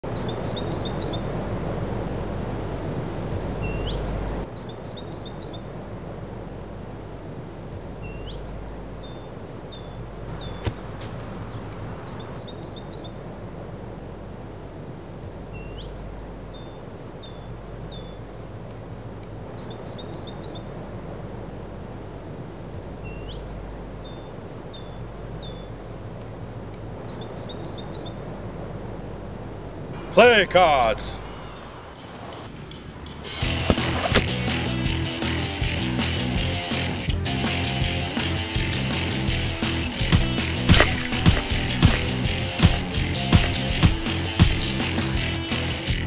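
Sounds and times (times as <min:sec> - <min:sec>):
birds chirping: 0:00.0 - 0:46.0
outdoor background noise: 0:00.0 - 0:46.0.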